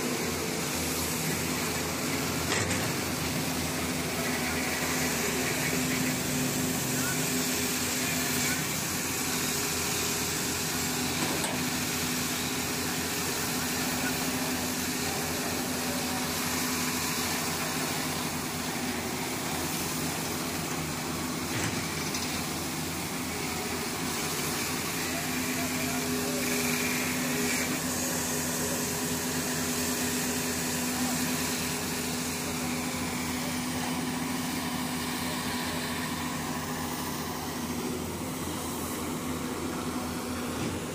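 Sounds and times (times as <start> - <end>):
excavator diesel engine droning: 0.0 - 40.9.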